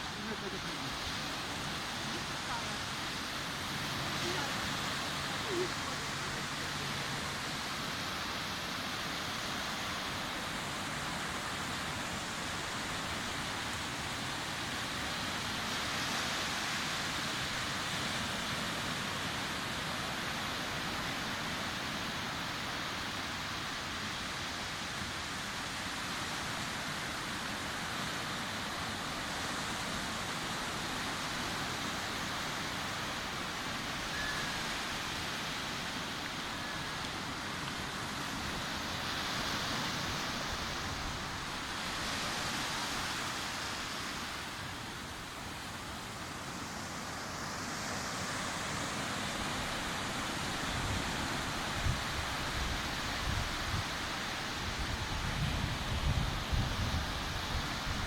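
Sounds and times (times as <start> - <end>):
sea waves on beach: 0.0 - 58.0.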